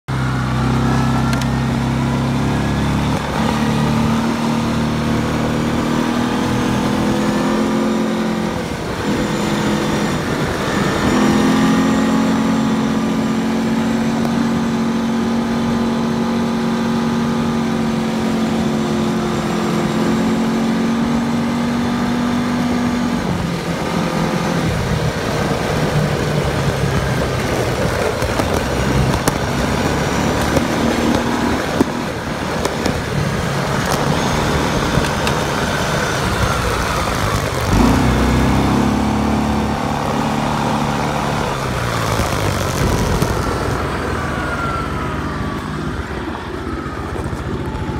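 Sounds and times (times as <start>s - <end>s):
atv engine running: 0.1s - 47.9s.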